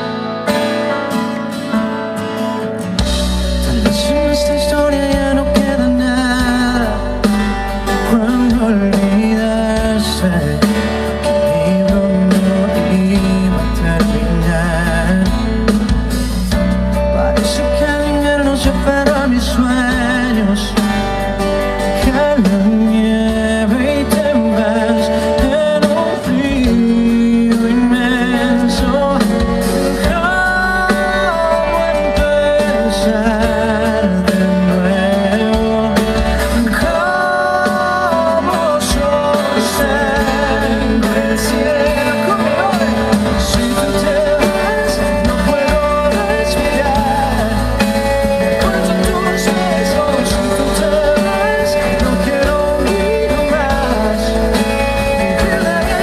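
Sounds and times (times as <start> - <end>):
live band playing pop ballad: 0.0 - 56.0
person singing with vibrato: 3.2 - 56.0.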